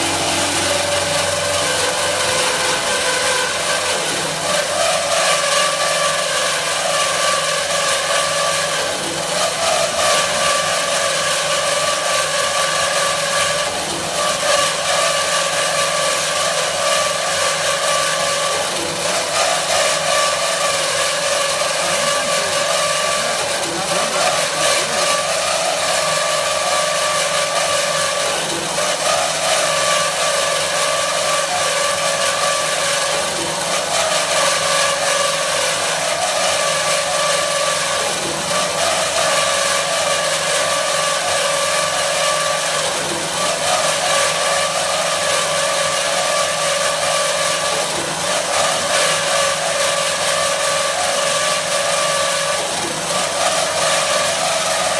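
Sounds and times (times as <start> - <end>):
band saw humming and whining: 0.0 - 54.9.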